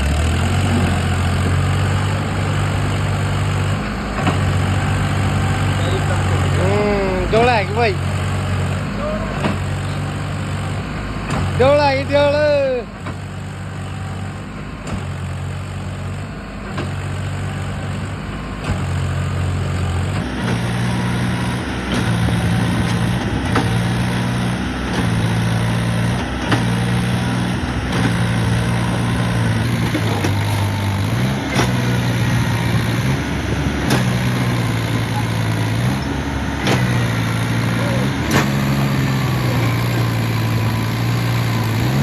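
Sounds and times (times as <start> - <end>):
diesel tractor engine running: 0.0 - 42.0.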